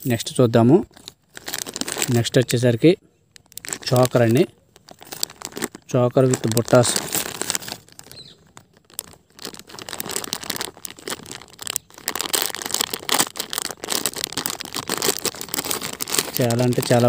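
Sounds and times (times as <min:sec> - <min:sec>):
plastic packets crinkling: 0:00.5 - 0:17.0.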